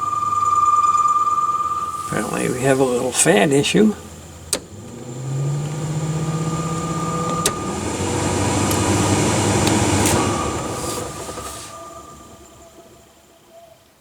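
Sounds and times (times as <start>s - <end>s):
blower fan humming: 0.0s - 13.3s.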